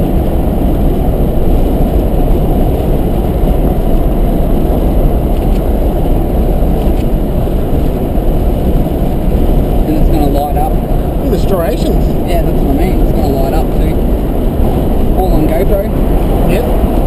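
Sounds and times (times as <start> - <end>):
car interior road noise: 0.0 - 17.0.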